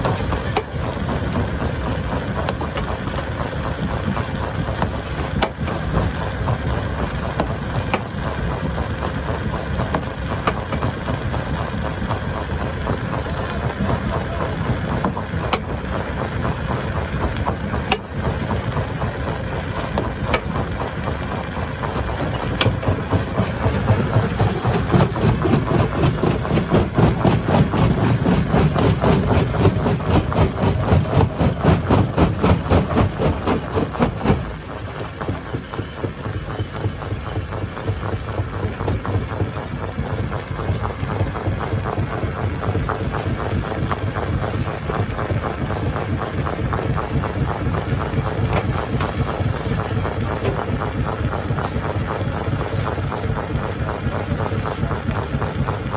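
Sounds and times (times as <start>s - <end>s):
stone crusher machine running: 0.0s - 55.9s.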